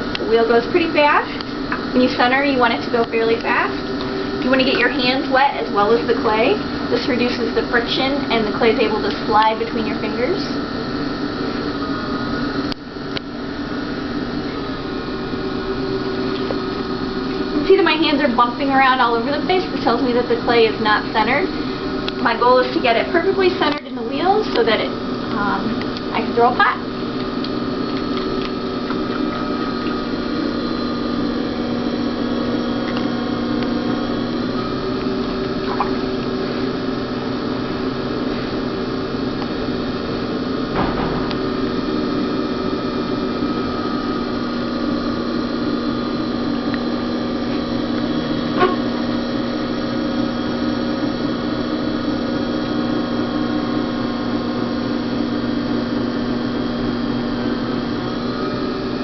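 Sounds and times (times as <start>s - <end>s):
potter's wheel motor hum: 0.0s - 59.0s.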